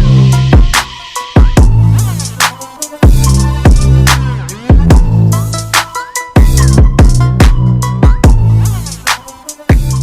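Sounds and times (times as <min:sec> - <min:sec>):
electronic music with heavy beat: 0:00.0 - 0:10.0.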